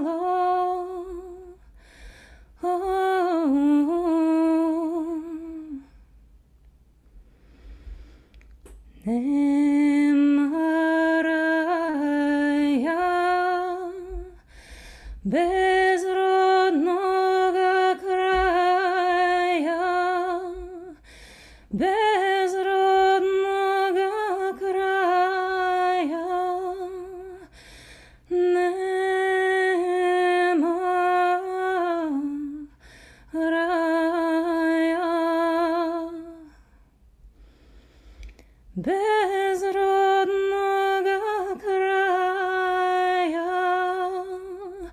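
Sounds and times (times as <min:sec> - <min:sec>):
woman singing unaccompanied: 0:00.0 - 0:01.7, 0:02.6 - 0:06.0, 0:08.9 - 0:14.5, 0:15.2 - 0:21.1, 0:21.7 - 0:27.5, 0:28.2 - 0:36.6, 0:38.8 - 0:44.9.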